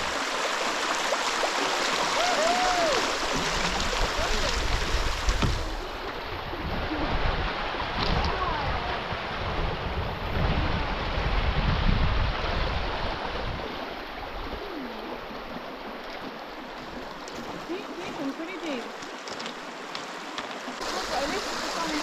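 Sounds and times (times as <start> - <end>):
rushing river water: 0.0 - 22.0.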